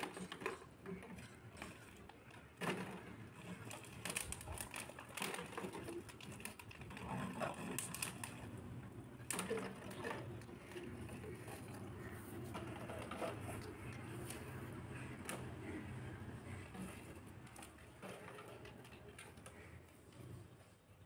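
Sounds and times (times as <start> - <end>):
objects knocking and clattering: 0.0 - 20.5.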